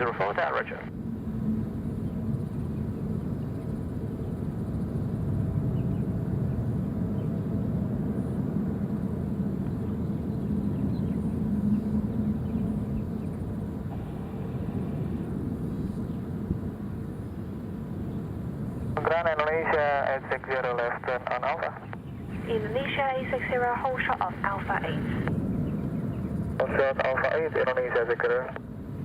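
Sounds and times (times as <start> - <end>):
faint hum: 0.0 - 29.0
jet engines rumbling: 0.0 - 29.0.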